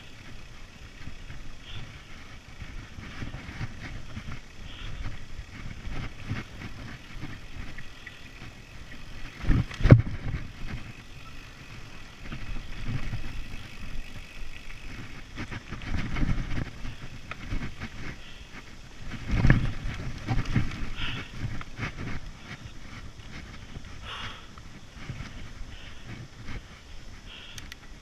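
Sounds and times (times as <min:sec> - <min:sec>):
wind buffeting microphone: 0:00.0 - 0:27.3
bike rattling over bumps: 0:00.0 - 0:28.0
tyres rumbling on dirt trail: 0:00.0 - 0:28.0.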